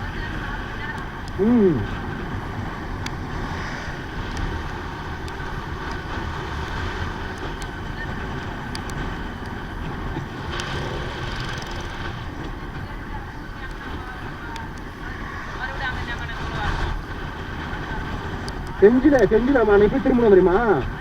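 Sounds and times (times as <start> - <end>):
motorcycle engine and tyre rumble: 0.0 - 21.0
wind rushing on microphone: 0.0 - 21.0.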